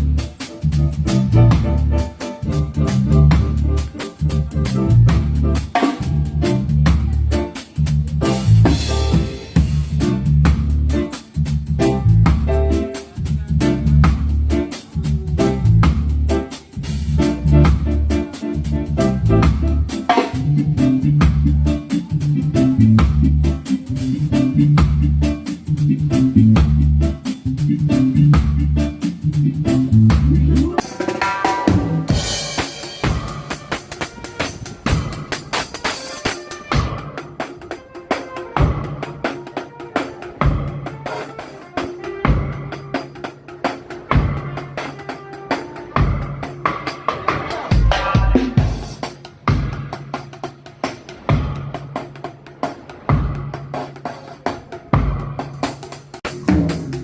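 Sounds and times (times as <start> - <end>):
heavy reggae bass line: 0.0 - 57.0
reggae drum groove: 0.0 - 57.0.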